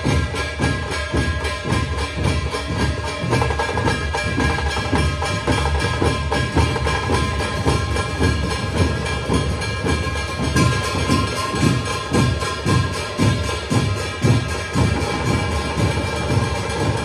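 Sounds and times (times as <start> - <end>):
drum troupe playing fast rhythm: 0.0 - 17.0.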